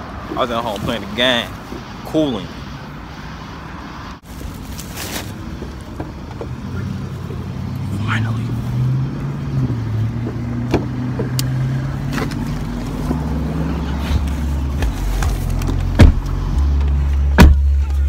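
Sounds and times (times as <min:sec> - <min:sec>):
car engine hum: 0:00.0 - 0:18.0.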